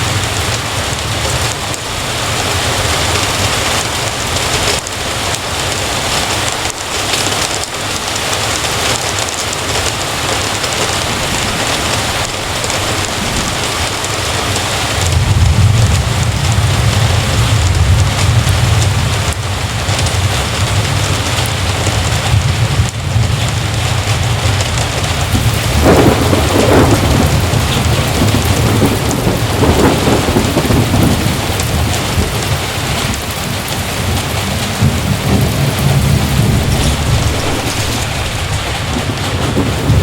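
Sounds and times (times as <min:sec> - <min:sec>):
heavy rain pouring: 0:00.0 - 0:40.0
thunder rumbling: 0:00.0 - 0:40.0.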